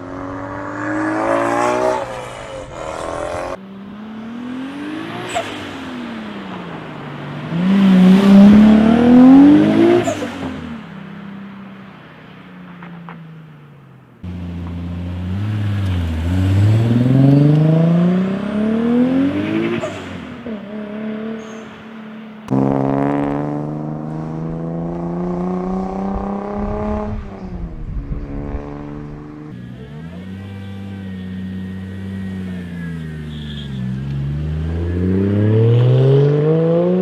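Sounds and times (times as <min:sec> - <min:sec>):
car engine revving: 0:00.0 - 0:11.0, 0:14.0 - 0:37.0.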